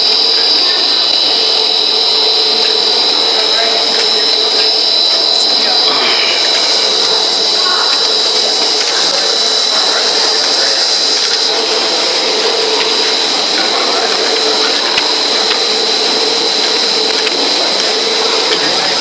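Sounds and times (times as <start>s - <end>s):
high whine: 0.0s - 19.0s
machinery running: 0.0s - 19.0s.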